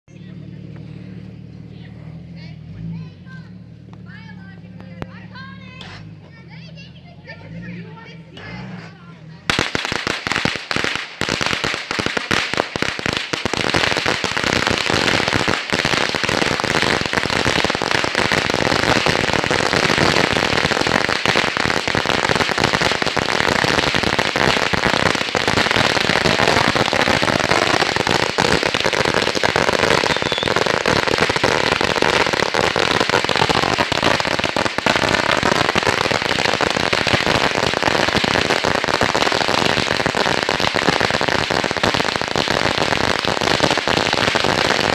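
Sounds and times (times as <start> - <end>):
firecrackers crackling: 0.1 - 44.9.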